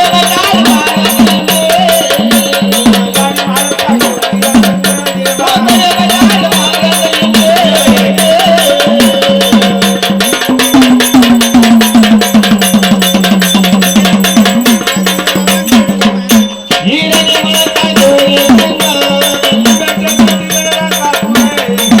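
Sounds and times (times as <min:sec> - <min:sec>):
folk drums and percussion: 0:00.0 - 0:22.0.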